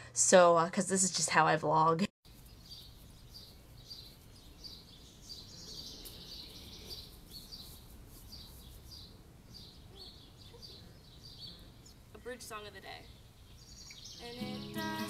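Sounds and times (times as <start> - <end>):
low steady background noise: 2.3 - 14.4
bird chirping: 2.3 - 15.0.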